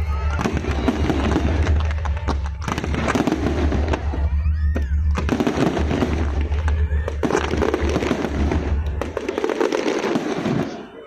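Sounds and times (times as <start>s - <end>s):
crackle of small fireworks: 0.0s - 11.0s
fireworks sharp bangs: 0.0s - 11.0s.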